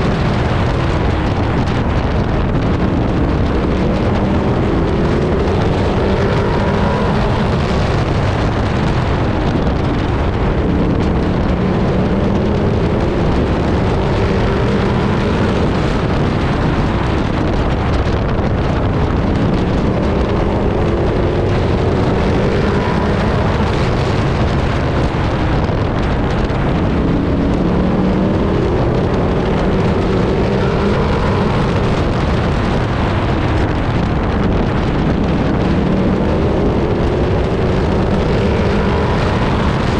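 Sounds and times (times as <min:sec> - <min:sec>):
race truck engine: 0:00.0 - 0:39.9
road and wind noise: 0:00.0 - 0:39.9.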